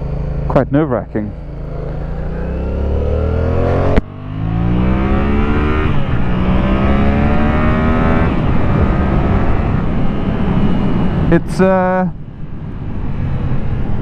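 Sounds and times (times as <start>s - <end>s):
motorcycle engine accelerating: 0.0s - 11.5s.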